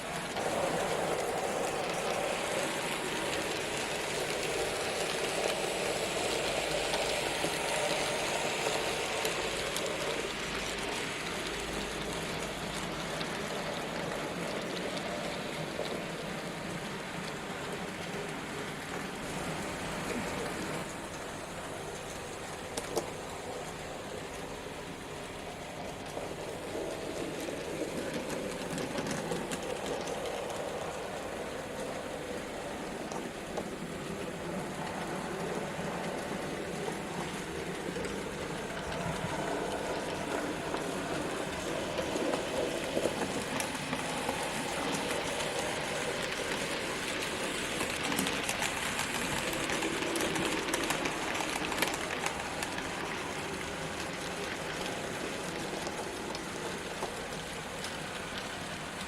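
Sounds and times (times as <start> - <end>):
model train motors whirring: 0.0 - 59.0
wheels clicking over rail joints: 0.0 - 59.0.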